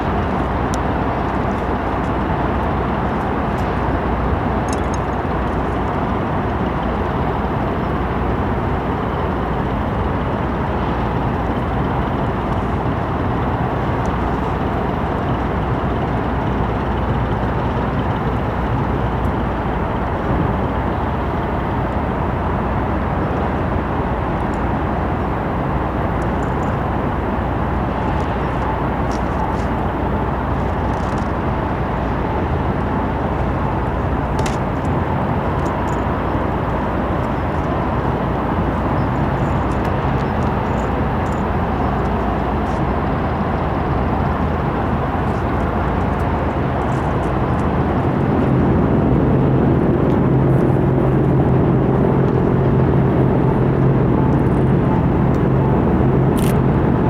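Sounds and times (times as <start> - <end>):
constant rushing noise: 0.0 - 57.0
low engine drone: 0.0 - 57.0.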